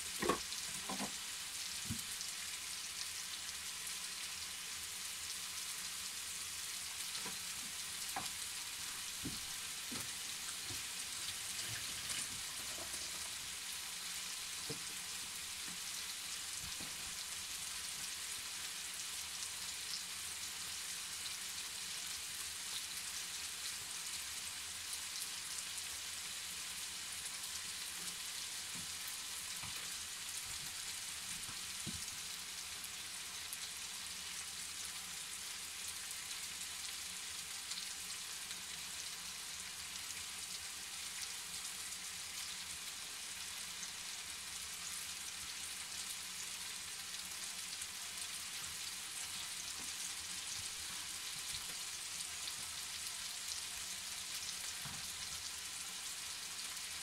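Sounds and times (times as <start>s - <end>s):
chicken frying in a pan: 0.0s - 57.0s.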